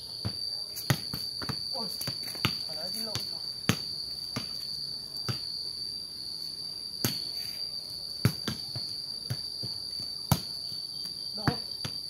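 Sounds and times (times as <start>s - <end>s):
high-pitched insect trill: 0.0s - 12.0s
ball kicked and bouncing on concrete: 0.2s - 5.6s, 7.0s - 7.5s, 8.1s - 12.0s.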